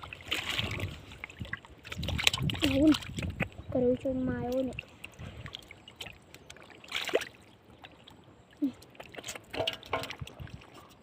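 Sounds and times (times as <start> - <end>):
floodwater splashing: 0.0 - 3.6, 4.3 - 11.0
faint water trickle: 0.0 - 11.0.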